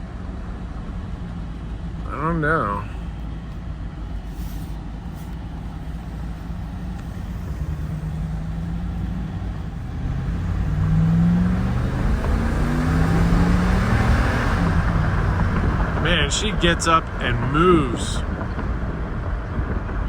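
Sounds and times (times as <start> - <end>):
truck engine accelerating: 0.0 - 20.0.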